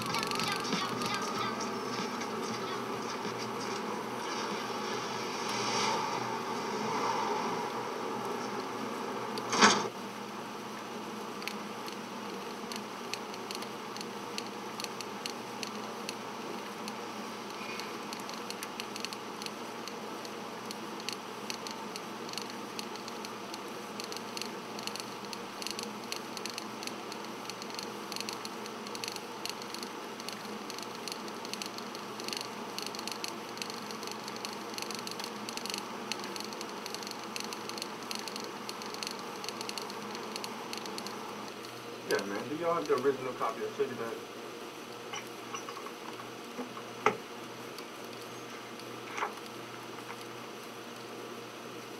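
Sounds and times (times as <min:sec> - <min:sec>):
faint hum: 0:00.0 - 0:51.9
film soundtrack hiss and crackle: 0:00.0 - 0:51.9.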